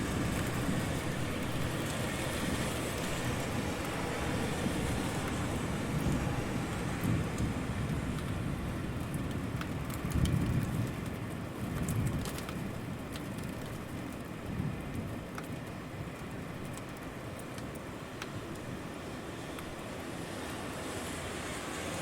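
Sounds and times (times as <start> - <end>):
steady city rain: 0.0 - 22.0.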